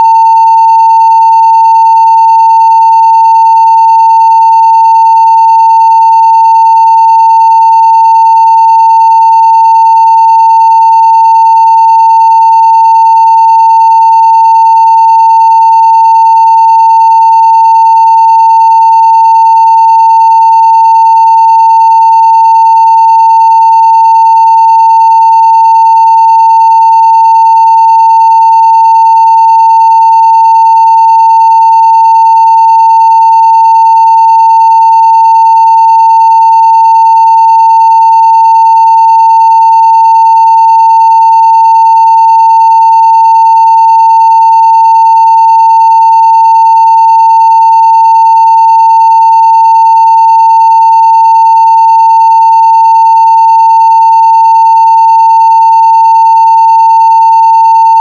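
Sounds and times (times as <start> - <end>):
loud sine-wave test tone: 0.0 - 58.0.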